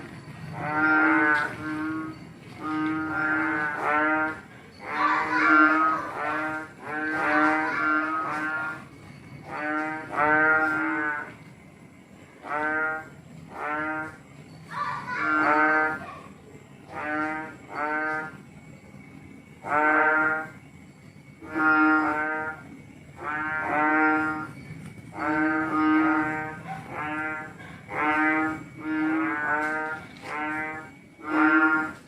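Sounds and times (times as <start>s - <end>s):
frogs calling: 0.0s - 32.0s.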